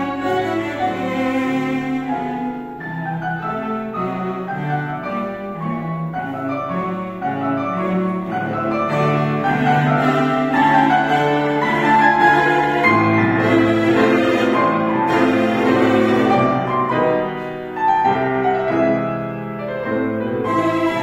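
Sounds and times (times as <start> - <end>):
violin and cello bowing: 0.0 - 19.3, 20.0 - 21.0
grand piano: 0.0 - 21.0.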